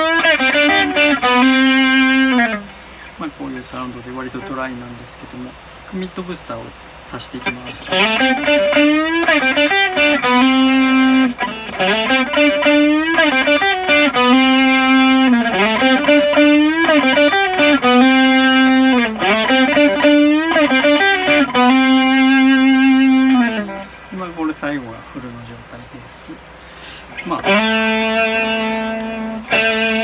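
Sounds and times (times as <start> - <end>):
electric guitar lead lick: 0.0 - 3.2, 4.2 - 4.8, 7.4 - 24.1, 26.4 - 30.0.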